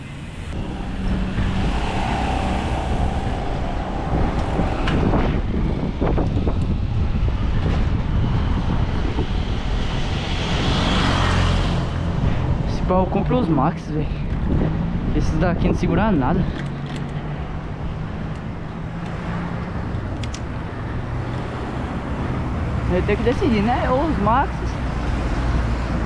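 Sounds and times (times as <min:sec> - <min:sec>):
vehicle rushing noise: 0:00.0 - 0:13.2, 0:17.2 - 0:26.0
road traffic noise: 0:00.0 - 0:26.0
wind buffeting microphone: 0:00.3 - 0:26.0.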